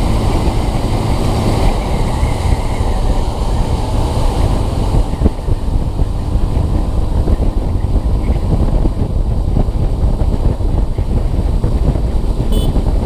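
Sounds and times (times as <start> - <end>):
motorcycle engine cruising: 0.0 - 13.0
wind buffeting microphone: 0.0 - 13.0.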